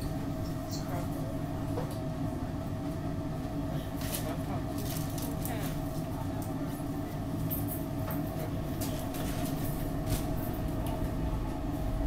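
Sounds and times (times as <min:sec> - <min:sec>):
mid-pitched hum: 0:00.0 - 0:12.0
subway car rumbling on rails: 0:00.0 - 0:12.0.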